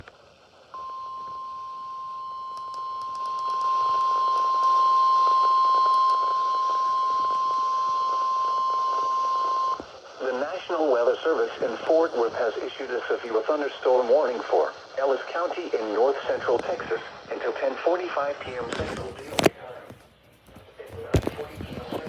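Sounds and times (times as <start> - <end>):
steady weather radio alert tone: 0.8 - 20.0, 20.6 - 22.0.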